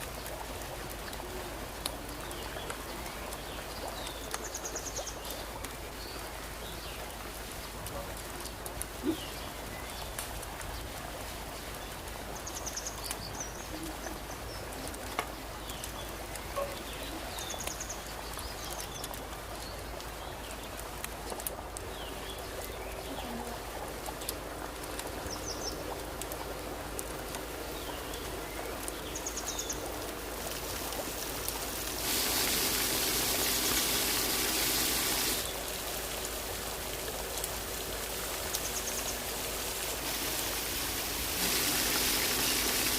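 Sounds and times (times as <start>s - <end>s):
frying sizzle with pops: 0.0s - 42.9s.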